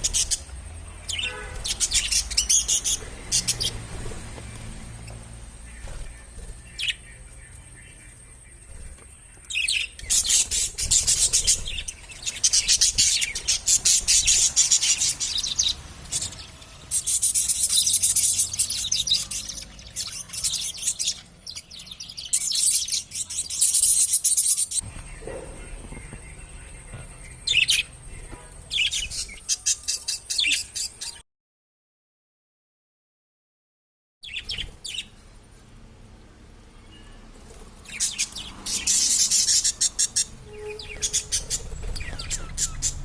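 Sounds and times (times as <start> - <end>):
budgerigars chirping: 0.0 - 31.2, 37.8 - 43.0.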